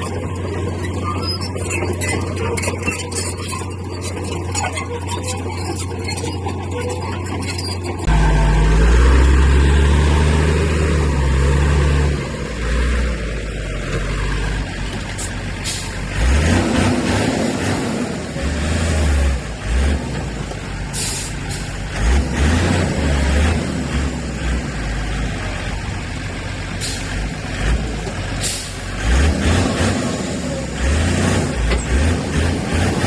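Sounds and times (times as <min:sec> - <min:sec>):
heavy diesel machinery engine: 0:00.0 - 0:33.0.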